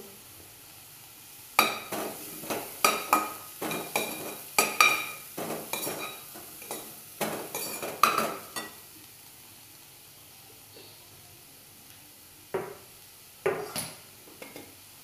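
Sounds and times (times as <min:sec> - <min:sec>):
faint sizzle of frying: 0:00.0 - 0:15.0.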